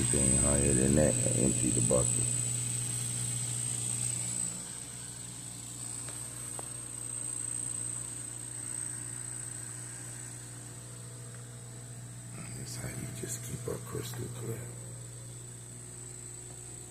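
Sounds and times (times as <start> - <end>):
aquarium filter pump humming: 0.0 - 16.9.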